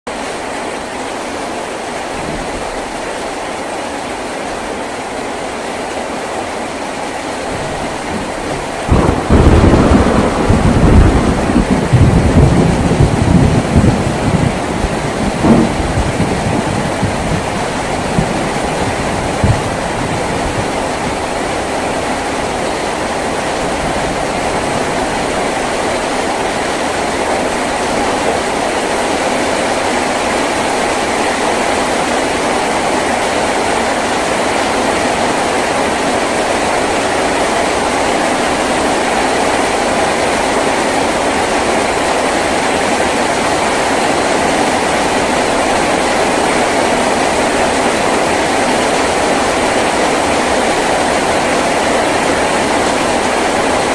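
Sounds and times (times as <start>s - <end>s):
heavy rain on a tin roof: 0.1s - 53.9s.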